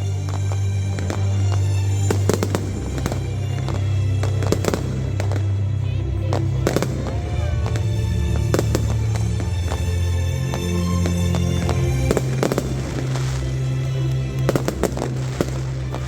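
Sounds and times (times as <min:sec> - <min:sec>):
fireworks bangs and cracks: 0:00.0 - 0:05.5, 0:06.3 - 0:16.0
background music with low note: 0:00.0 - 0:16.0.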